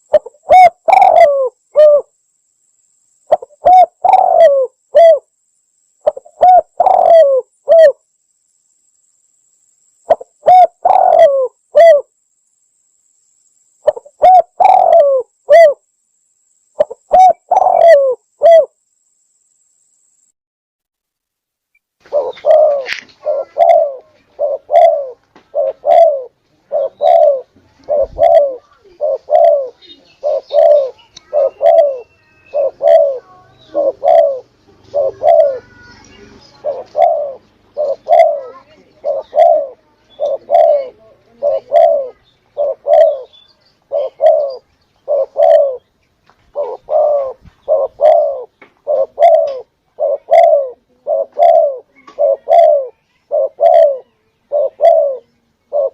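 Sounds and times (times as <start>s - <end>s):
dove cooing: 0.0s - 2.1s, 3.3s - 5.3s, 6.0s - 8.0s, 10.1s - 12.1s, 13.8s - 15.8s, 16.8s - 18.8s, 22.0s - 45.9s, 46.5s - 55.9s.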